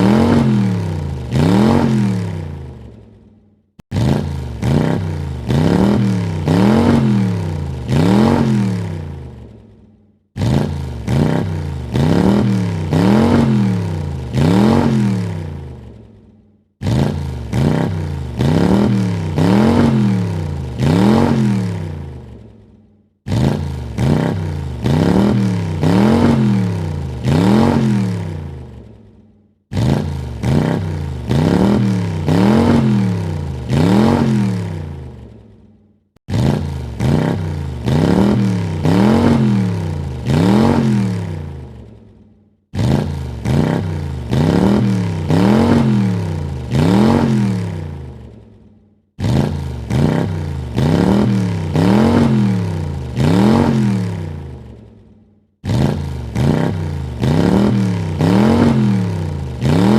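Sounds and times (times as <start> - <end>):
car engine revving: 0.0 - 3.0, 3.8 - 9.6, 10.4 - 16.2, 16.8 - 22.6, 23.3 - 29.0, 29.7 - 35.4, 36.3 - 42.0, 42.7 - 48.4, 49.2 - 54.9, 55.6 - 59.9.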